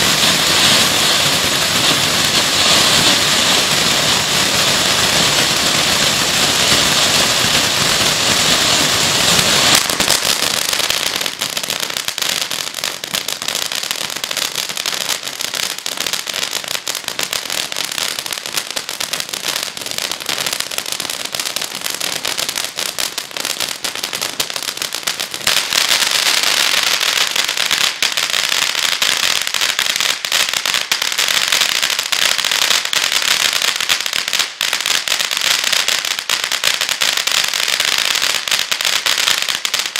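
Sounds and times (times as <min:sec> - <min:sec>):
firework crackling: 0:00.0 - 0:39.9
firework sparks hissing: 0:00.0 - 0:39.9.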